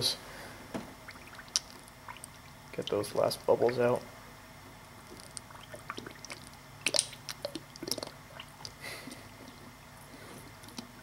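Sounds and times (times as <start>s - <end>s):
coolant gurgling and popping: 0.7s - 11.0s.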